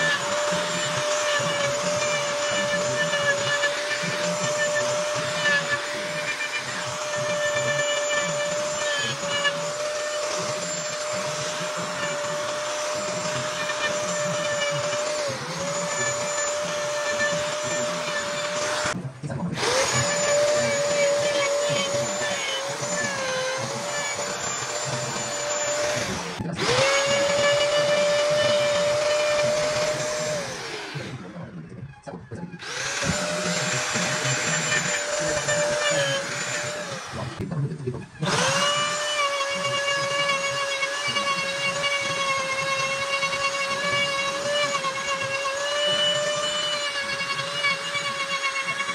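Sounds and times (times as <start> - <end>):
power carving tool whining: 0.0 - 48.9.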